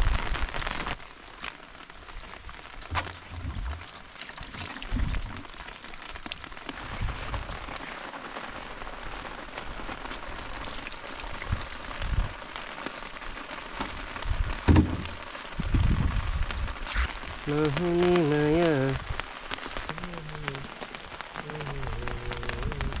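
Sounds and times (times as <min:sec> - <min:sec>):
light rain patter: 0:00.0 - 0:23.0.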